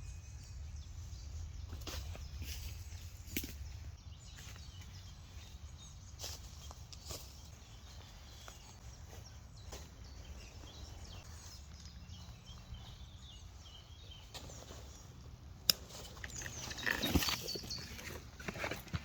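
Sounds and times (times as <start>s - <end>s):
small birds calling: 0.0s - 19.0s.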